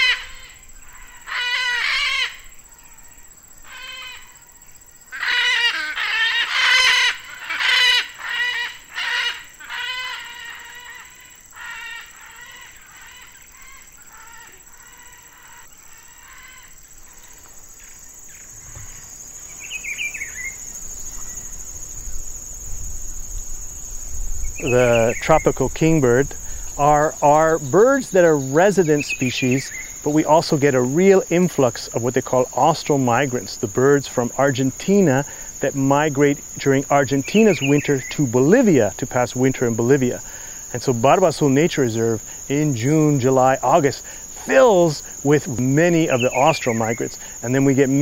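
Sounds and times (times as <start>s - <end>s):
macaw calling: 0.0s - 3.0s, 3.6s - 22.0s, 24.5s - 48.0s
high insect trill: 0.0s - 48.0s.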